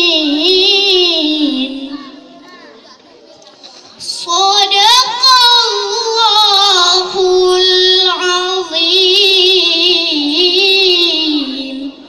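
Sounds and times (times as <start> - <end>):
girl chanting recitation: 0.0 - 3.0, 4.0 - 12.0.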